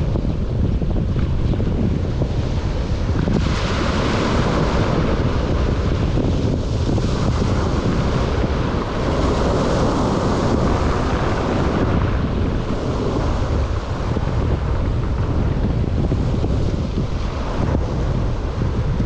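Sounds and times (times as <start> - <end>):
sea surf washing on shore: 0.0 - 19.0
wind rumble on microphone: 0.0 - 19.0.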